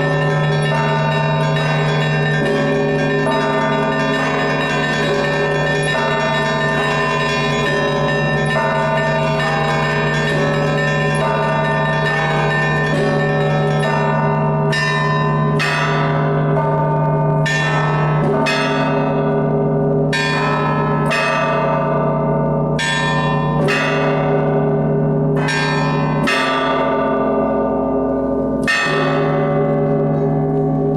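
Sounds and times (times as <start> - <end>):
church bells pealing: 0.0 - 30.9
loud bell strikes: 0.0 - 30.9.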